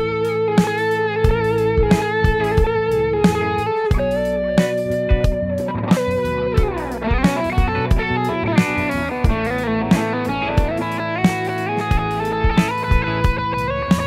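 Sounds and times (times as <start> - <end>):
electric guitar notes: 0.0 - 14.0.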